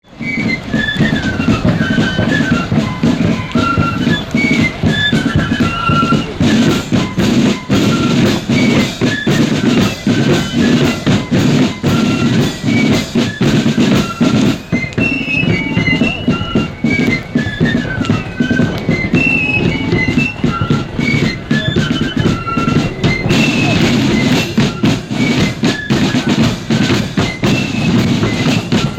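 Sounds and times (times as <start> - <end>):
high flute melody: 0.0 - 28.9
steady drum beat: 0.2 - 28.9.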